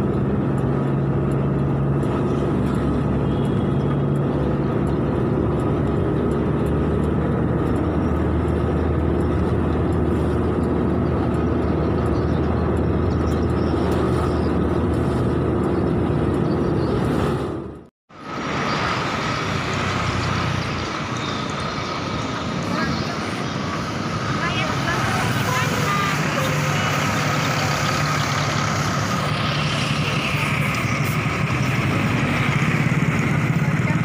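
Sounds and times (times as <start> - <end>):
tyre and road noise: 0.0 - 34.0
vehicle engine running: 0.0 - 34.0.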